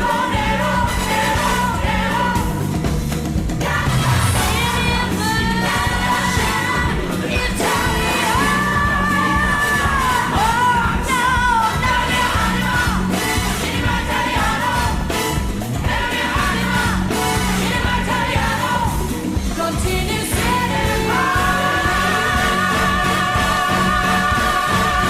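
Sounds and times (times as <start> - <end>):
pop dance song with singing: 0.0 - 2.7, 3.5 - 25.0.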